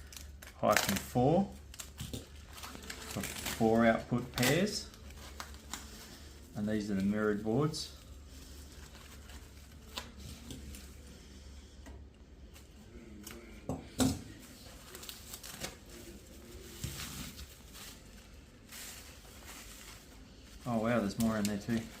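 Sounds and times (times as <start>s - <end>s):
packaging rustling: 0.0s - 11.2s, 14.3s - 22.0s.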